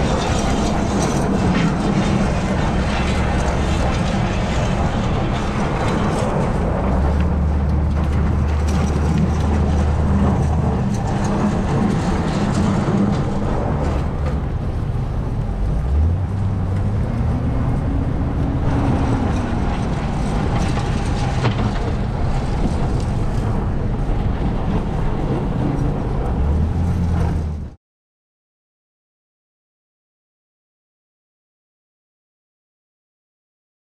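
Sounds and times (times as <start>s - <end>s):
road noise: 0.0s - 27.8s
truck engine hum: 0.0s - 27.8s.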